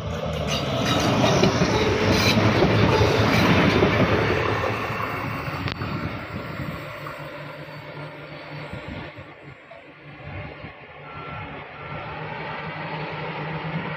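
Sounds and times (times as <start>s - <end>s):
diesel train passing: 0.0s - 13.9s.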